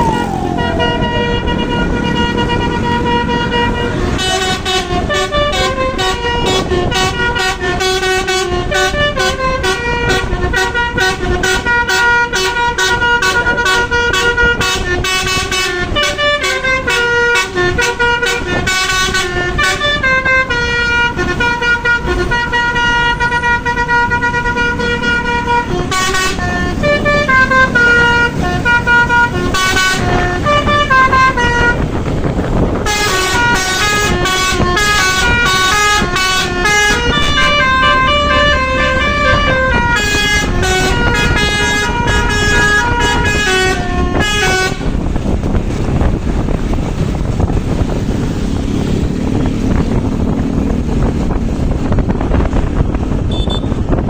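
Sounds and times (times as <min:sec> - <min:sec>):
musical air horn playing tunes: 0:00.0 - 0:31.9, 0:32.7 - 0:45.1, 0:53.2 - 0:53.9
bus engine rumble: 0:00.0 - 0:54.0
road noise: 0:00.0 - 0:54.0.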